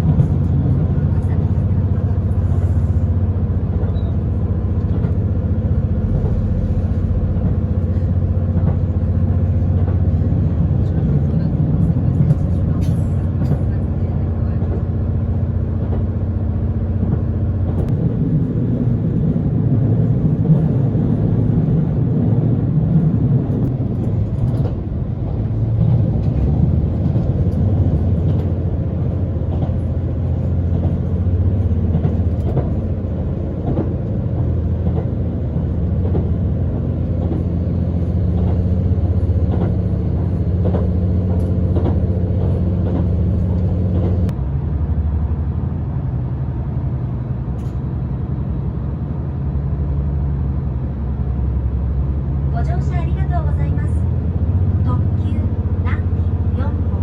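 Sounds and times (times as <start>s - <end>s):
train engine rumble: 0.0s - 57.0s.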